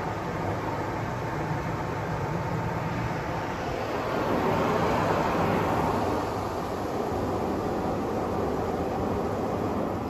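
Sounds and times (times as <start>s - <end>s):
low hum of wash machinery: 0.0s - 10.0s
water spraying onto car: 0.0s - 10.0s.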